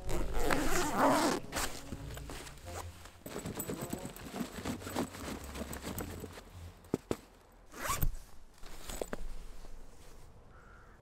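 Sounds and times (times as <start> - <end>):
fabric and padding rustling: 0.0 - 10.3.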